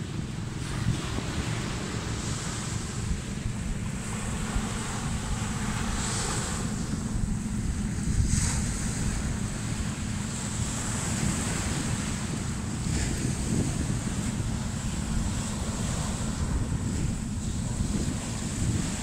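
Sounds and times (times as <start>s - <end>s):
ocean waves washing onto beach: 0.0s - 19.0s
wind buffeting microphone: 0.0s - 19.0s.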